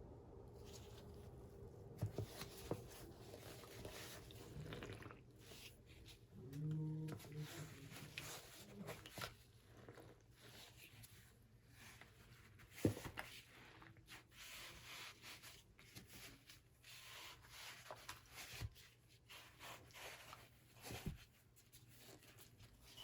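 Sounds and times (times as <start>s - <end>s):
faint scratchy rubbing and scraping: 0.6s - 23.0s.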